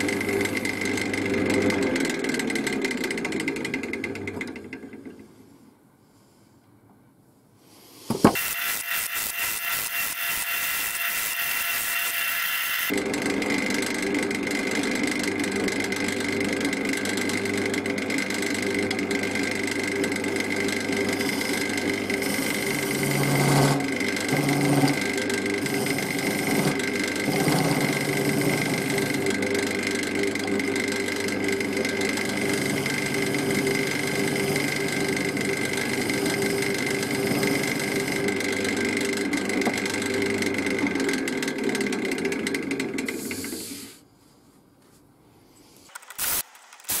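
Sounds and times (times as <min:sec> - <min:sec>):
wood lathe cutting wood: 0:00.0 - 0:04.7, 0:08.4 - 0:43.6.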